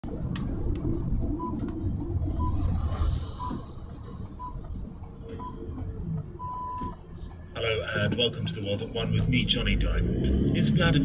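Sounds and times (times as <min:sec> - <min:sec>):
car rumble inside cabin: 0:00.0 - 0:11.0.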